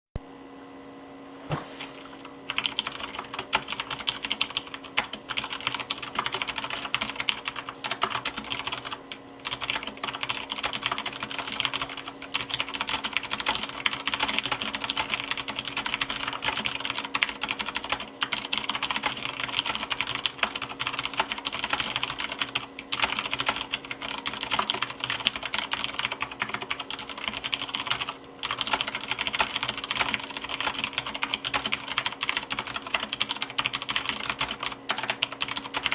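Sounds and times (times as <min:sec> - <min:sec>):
faint steady hum: 0:00.2 - 0:35.9
mechanical keyboard typing: 0:02.5 - 0:35.9.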